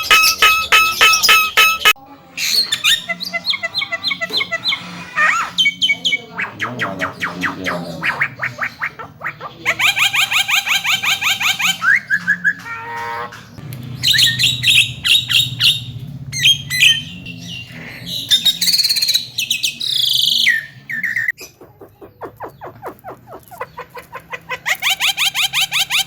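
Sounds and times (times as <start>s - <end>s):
bird singing chattering song: 0.0s - 26.0s.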